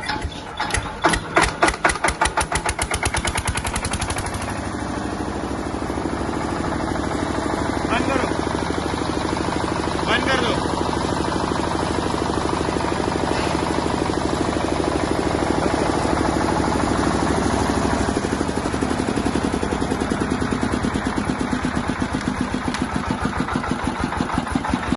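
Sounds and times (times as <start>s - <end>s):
diesel generator engine running: 0.0s - 24.9s.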